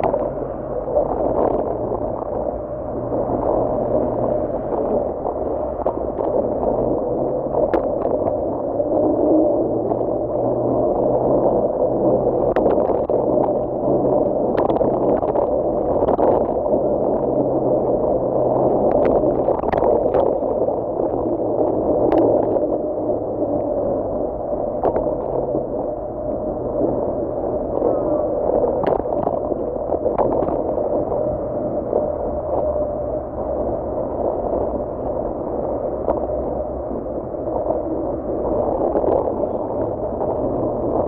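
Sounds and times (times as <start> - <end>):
low motor hum: 0.0 - 41.0.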